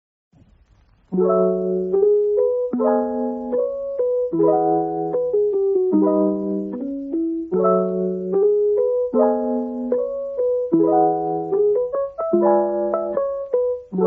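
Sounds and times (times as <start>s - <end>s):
piano playing slow chords: 1.1s - 14.0s.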